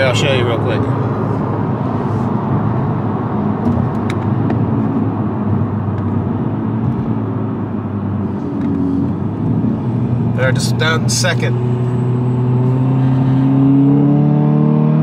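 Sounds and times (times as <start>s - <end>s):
car engine hum: 0.0s - 15.0s
tyre road noise: 0.0s - 15.0s.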